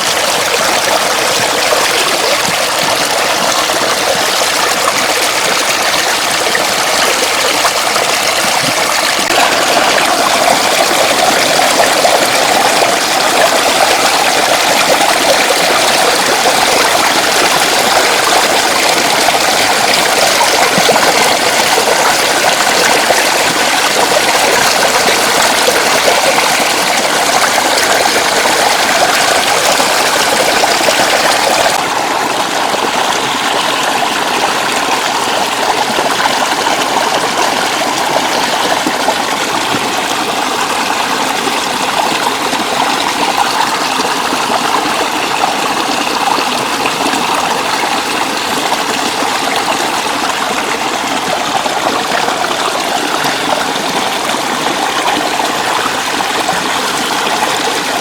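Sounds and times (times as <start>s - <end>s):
floodwater flowing over road: 0.0s - 58.0s.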